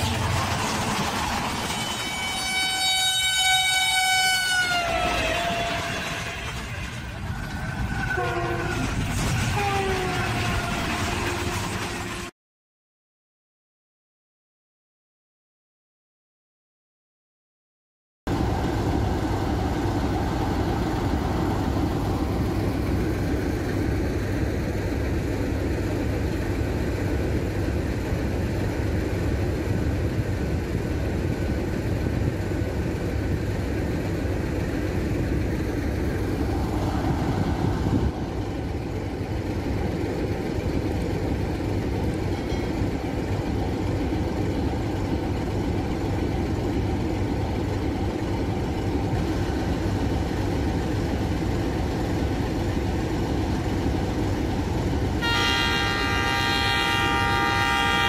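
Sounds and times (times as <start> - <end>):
diesel locomotive engine rumbling: 0.0 - 12.3, 18.3 - 58.0.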